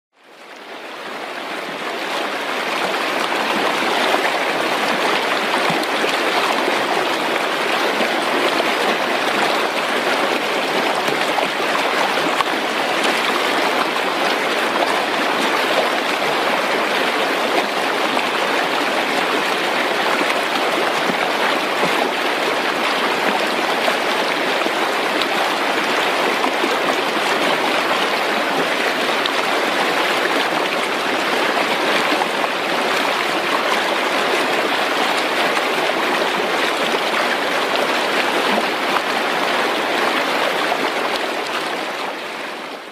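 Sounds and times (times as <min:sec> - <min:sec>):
stream rushing and babbling: 0:00.2 - 0:42.9.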